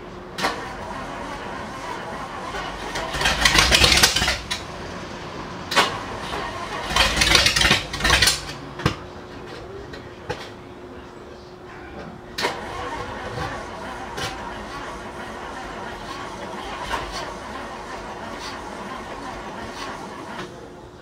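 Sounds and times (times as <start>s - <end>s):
car engine cranking and sputtering: 0.0s - 10.6s, 12.3s - 20.8s.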